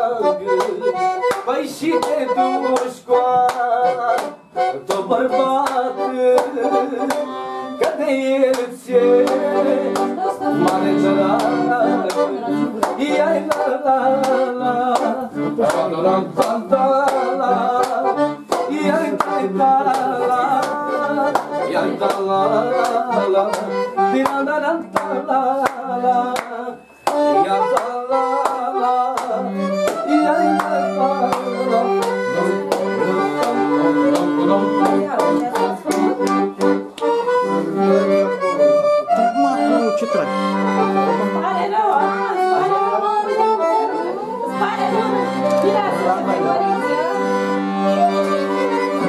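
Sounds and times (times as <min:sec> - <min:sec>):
accordion dance tune: 0:00.0 - 0:49.0.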